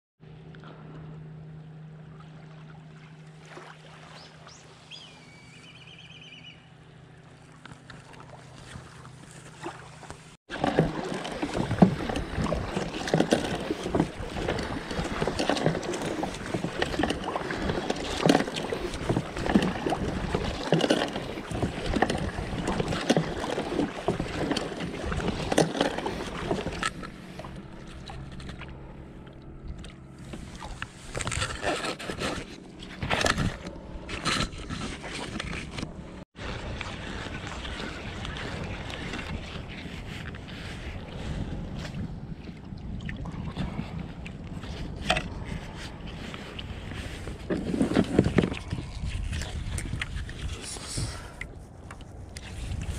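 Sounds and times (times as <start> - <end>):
water slapping hull: 0.5 - 52.9
paddle splashing in water: 2.0 - 6.0, 7.1 - 52.9.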